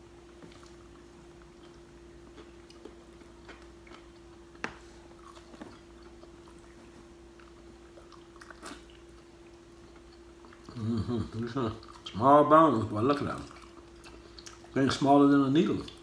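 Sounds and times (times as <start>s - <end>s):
faint hum: 0.0s - 16.0s
chewing: 0.3s - 16.0s.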